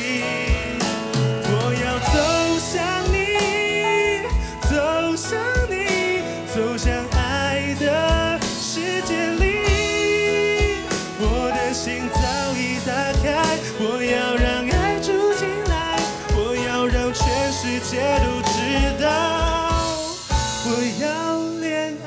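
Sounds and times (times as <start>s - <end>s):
backing track with drum beat: 0.0s - 22.0s
man singing into a microphone: 0.0s - 22.0s.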